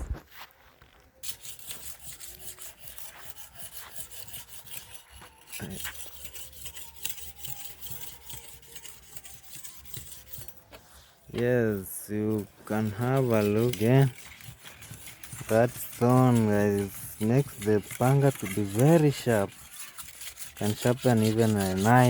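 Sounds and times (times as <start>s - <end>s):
blade scraping on sharpening stone: 1.2s - 22.0s.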